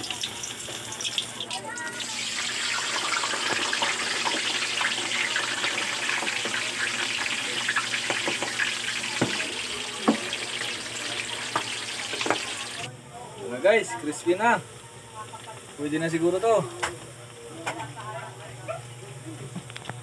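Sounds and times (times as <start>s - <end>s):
meat deep-frying in oil: 0.0s - 16.6s.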